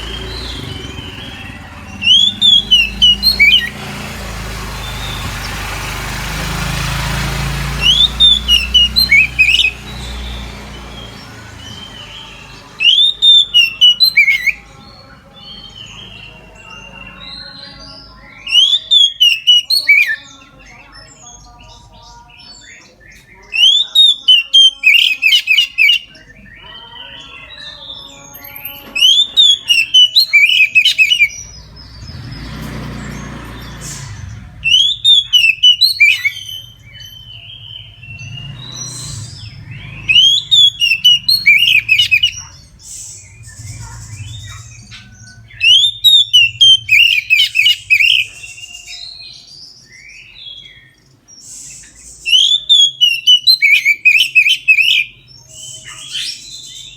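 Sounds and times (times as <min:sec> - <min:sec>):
magpie-robin singing: 0:00.0 - 0:56.9.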